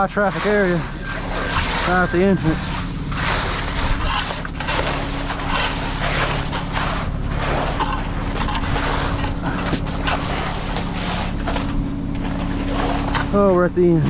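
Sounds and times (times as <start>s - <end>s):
diesel engine running: 0.0s - 14.0s
wet concrete scraping and swishing: 0.0s - 14.0s.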